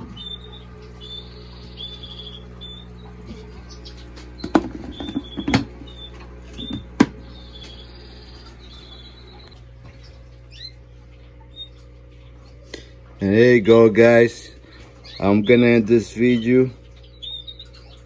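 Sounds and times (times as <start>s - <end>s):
bird chirping: 0.0s - 12.6s, 13.7s - 18.0s
steady low hum: 0.0s - 18.0s.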